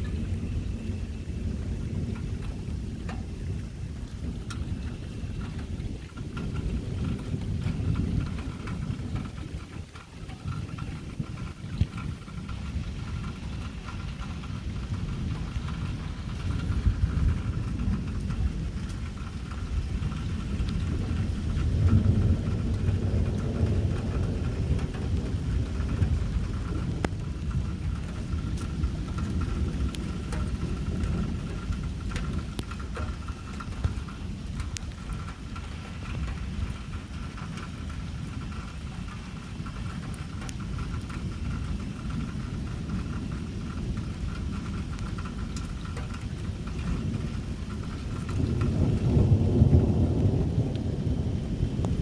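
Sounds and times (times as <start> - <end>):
low rumble of thunder: 0.0 - 52.0
rain falling: 0.0 - 52.0.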